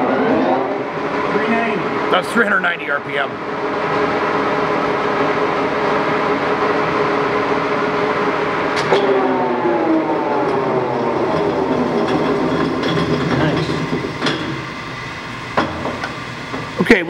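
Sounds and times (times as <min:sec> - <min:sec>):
lathe gear hum: 0:00.0 - 0:17.0.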